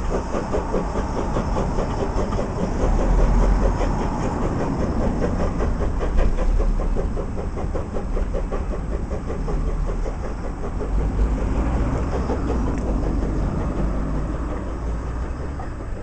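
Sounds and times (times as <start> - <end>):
diesel train engine beating: 0.0 - 16.0.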